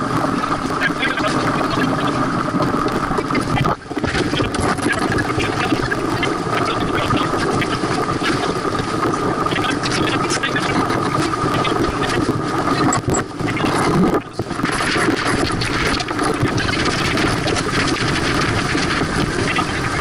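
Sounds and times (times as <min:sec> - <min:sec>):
wind and water rushing: 0:00.0 - 0:20.0.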